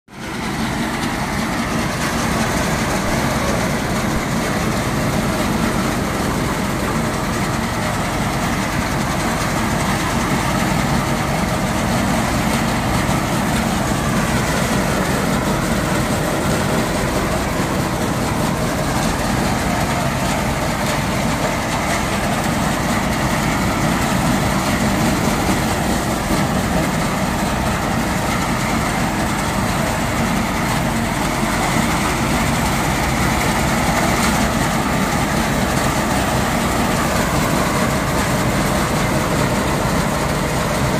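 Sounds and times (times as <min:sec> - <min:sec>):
tractor diesel engine running: 0:00.1 - 0:40.9.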